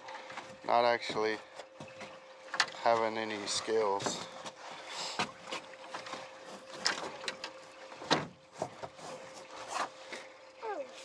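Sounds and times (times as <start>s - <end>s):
knocks and clicks on a boat: 0.0s - 10.2s.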